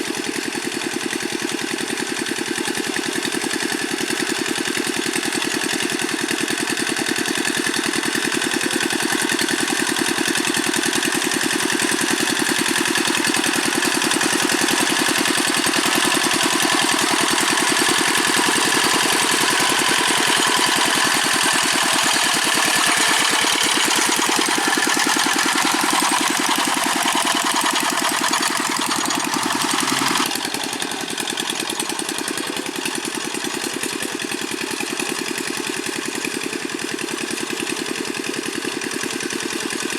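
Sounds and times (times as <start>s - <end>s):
diesel engine running: 6.1s - 39.9s.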